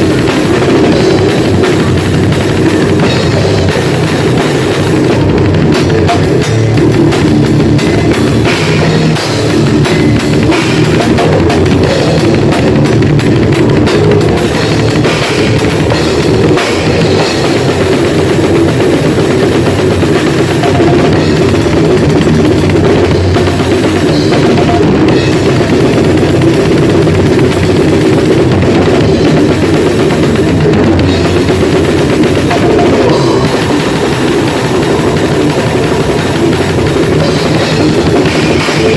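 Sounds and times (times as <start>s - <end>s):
fast drum kit with cymbals: 0.0s - 38.9s
loud grindcore band playing: 0.0s - 38.9s.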